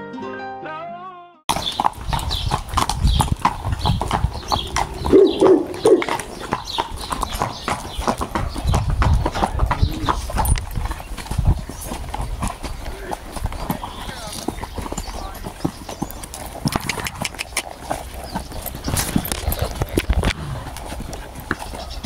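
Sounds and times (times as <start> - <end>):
horse hooves clopping on pavement: 1.5 - 22.0.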